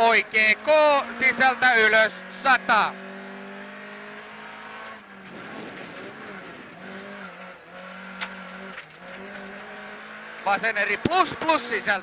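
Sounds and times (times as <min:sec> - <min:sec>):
car engine at high revs: 0:00.0 - 0:12.0
gravel and tyre noise: 0:00.0 - 0:12.0.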